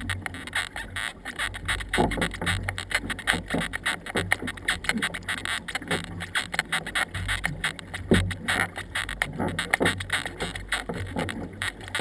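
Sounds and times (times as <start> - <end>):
paddle splashing and knocking: 0.0 - 12.0.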